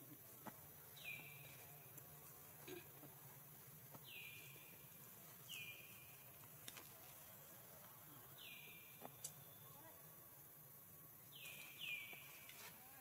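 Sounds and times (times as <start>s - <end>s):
quiet forest background: 0.0s - 13.0s.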